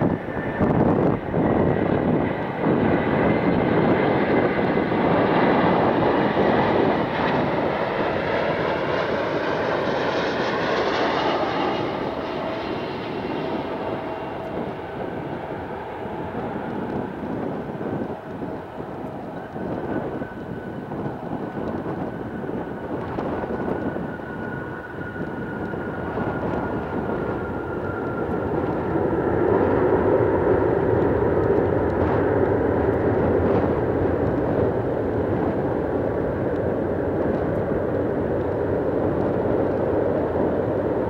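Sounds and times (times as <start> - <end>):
jet engine roar: 0.0 - 41.0
jet engine whine: 0.0 - 41.0.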